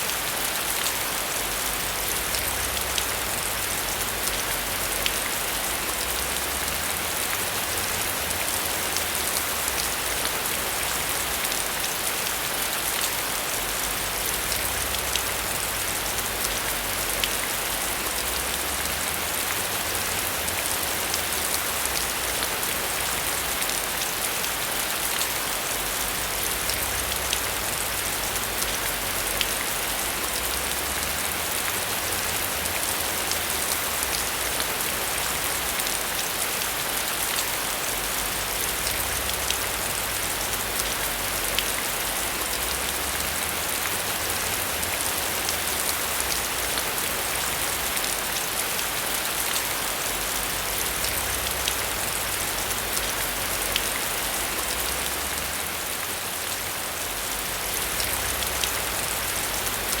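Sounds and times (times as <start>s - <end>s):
heavy rain pattering: 0.0s - 60.0s.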